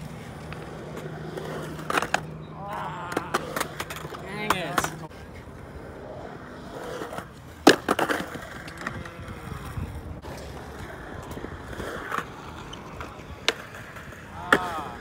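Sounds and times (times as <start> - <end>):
skateboard cracking: 0.0 - 15.0
skateboard wheels rolling: 0.0 - 15.0
skateboard clacks: 0.1 - 5.5, 6.8 - 15.0.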